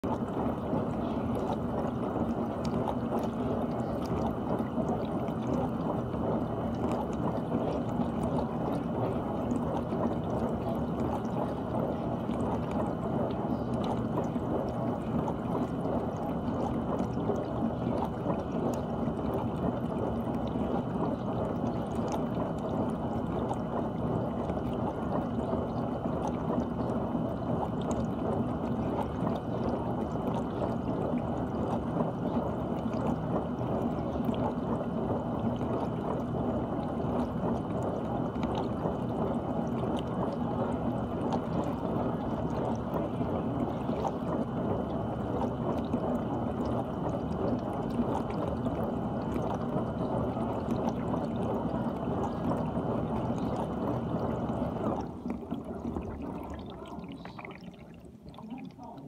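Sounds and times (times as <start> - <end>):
high pump whine: 0.0 - 59.0.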